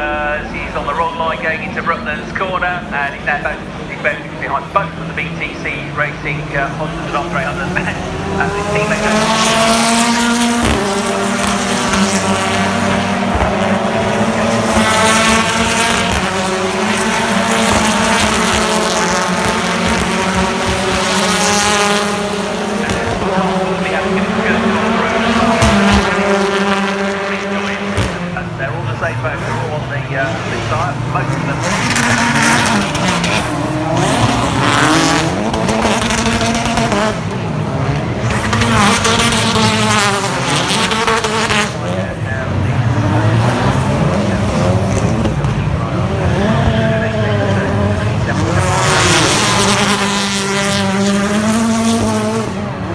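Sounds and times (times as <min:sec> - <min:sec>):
car accelerating: 0:00.0 - 0:52.9
race car engines: 0:00.0 - 0:52.9.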